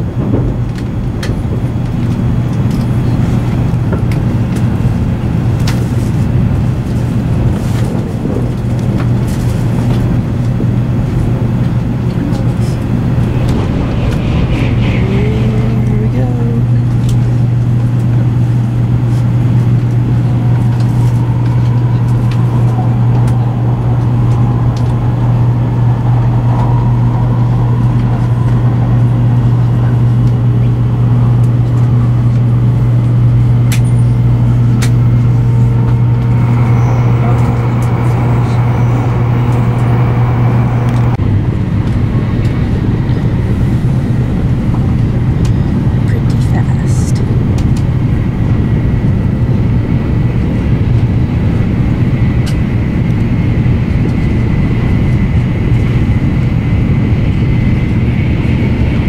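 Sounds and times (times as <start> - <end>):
train cabin hum and rush: 0.0 - 59.0.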